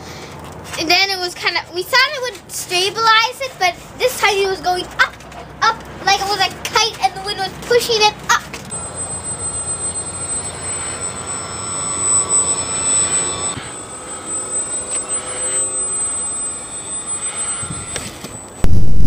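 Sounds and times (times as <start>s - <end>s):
rc plane motors whining: 0.8s - 18.7s.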